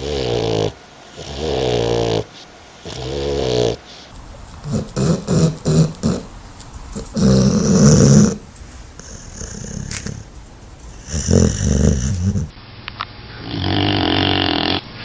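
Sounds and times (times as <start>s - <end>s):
dog snoring: 0.0s - 10.3s, 10.9s - 12.6s, 13.4s - 14.9s
dog snorting breaths: 0.0s - 12.5s.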